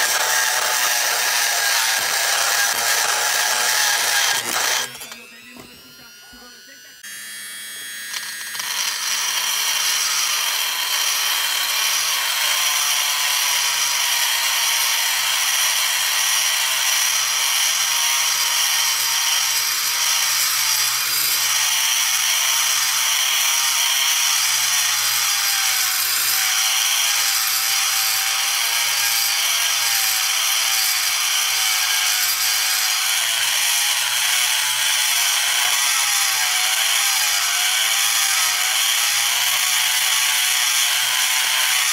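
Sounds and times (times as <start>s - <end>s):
rotary tool grinding metal: 0.0s - 41.9s.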